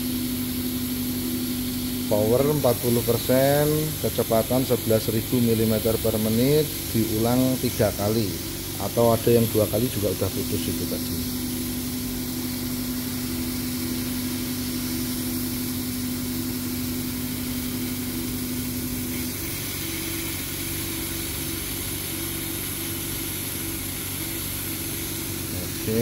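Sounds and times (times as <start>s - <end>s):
laser cutter hum and hiss: 0.0s - 26.0s.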